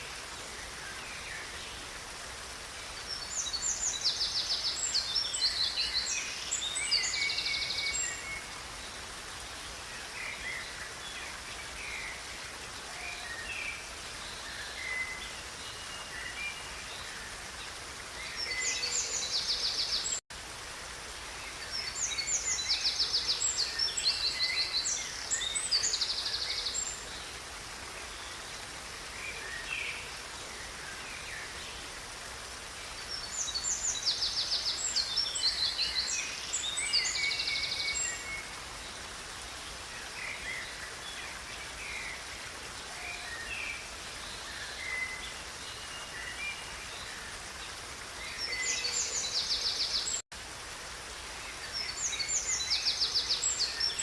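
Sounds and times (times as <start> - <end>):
songbirds trilling and chirping: 0.0 - 20.2, 20.9 - 50.2
river flowing: 0.0 - 54.0.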